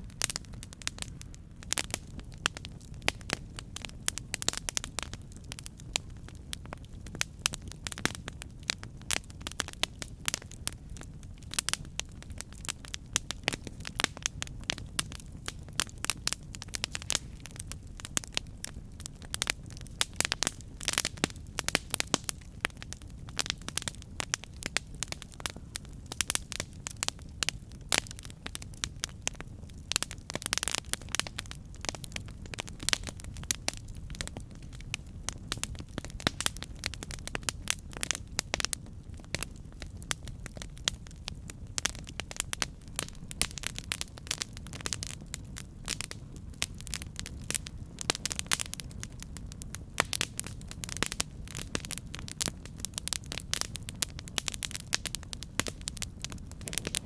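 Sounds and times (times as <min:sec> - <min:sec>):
campfire crackling: 0:00.0 - 0:57.0
low rumble of burning wood: 0:00.0 - 0:57.0.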